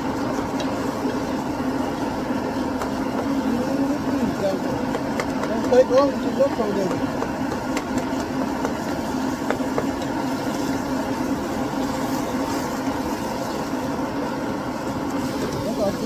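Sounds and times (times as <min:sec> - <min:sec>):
gas burner flame roaring: 0:00.0 - 0:16.0.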